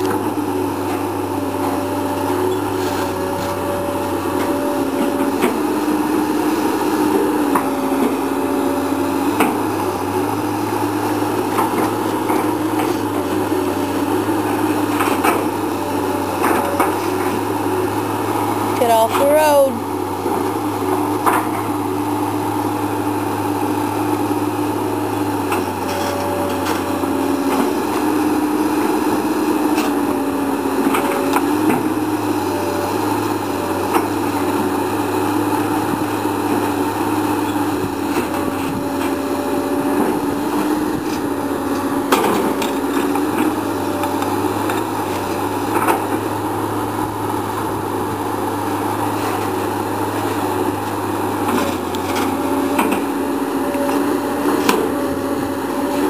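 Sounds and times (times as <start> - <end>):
excavator engine and hydraulic whine: 0.0 - 56.0.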